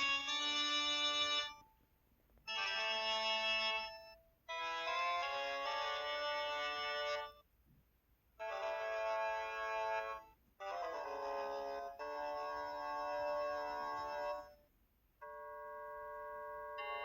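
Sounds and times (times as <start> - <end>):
synthesized phone ringtone melody: 0.0 - 1.6, 2.5 - 7.4, 8.4 - 14.6, 15.2 - 17.0.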